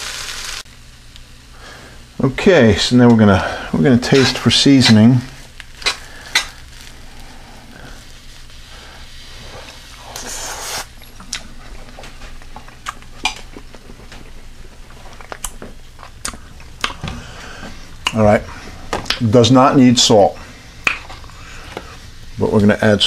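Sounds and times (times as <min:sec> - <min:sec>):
beans sizzling in skillet: 0:00.0 - 0:23.0.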